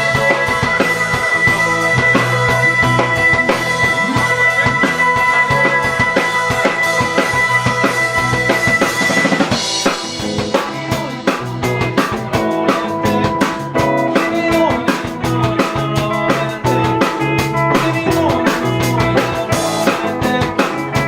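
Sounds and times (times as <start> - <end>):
drum kit beat: 0.0 - 21.0
rock band playing live: 0.0 - 21.0
sustained guitar chords: 0.0 - 21.0.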